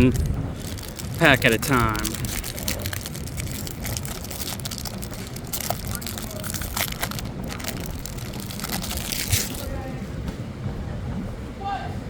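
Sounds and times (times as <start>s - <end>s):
foil wrapper crinkling: 0.0s - 9.7s
wind buffeting microphone: 0.0s - 12.0s.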